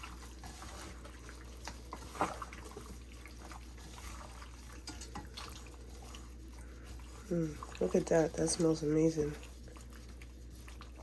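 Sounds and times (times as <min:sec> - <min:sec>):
low steady hum: 0:00.0 - 0:11.0
wet squishing of raw chicken: 0:00.0 - 0:11.0.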